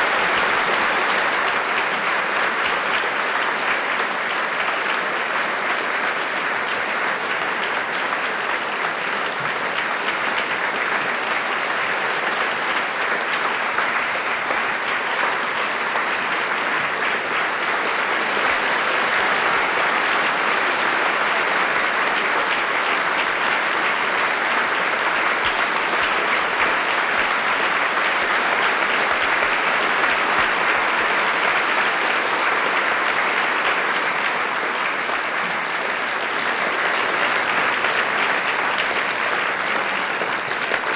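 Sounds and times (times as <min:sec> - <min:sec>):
crowd applauding: 0:00.0 - 0:40.9.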